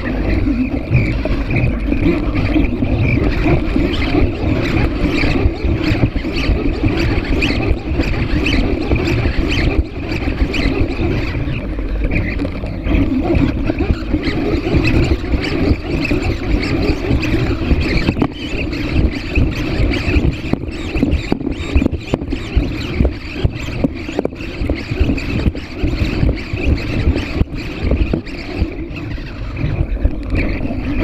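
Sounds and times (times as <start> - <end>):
small motor running: 0.0 - 31.0
wind buffeting microphone: 0.0 - 31.0.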